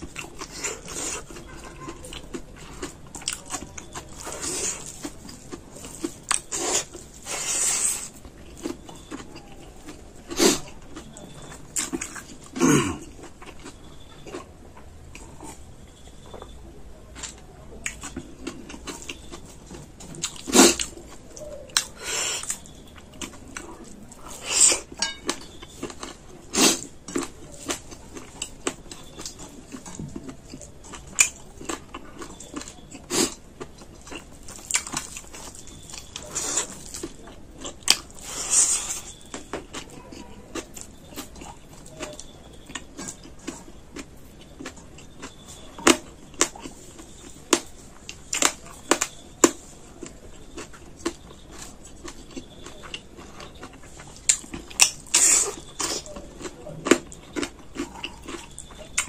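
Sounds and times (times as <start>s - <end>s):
person chewing and smacking: 0.0s - 59.0s.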